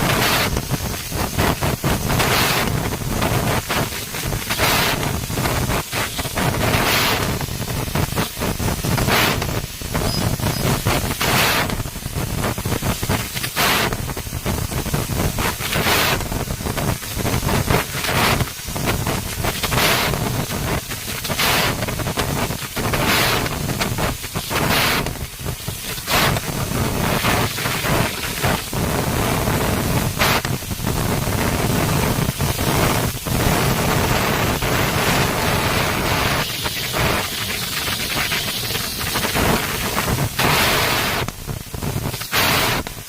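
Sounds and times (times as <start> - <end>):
bright hiss: 0.0 - 43.0.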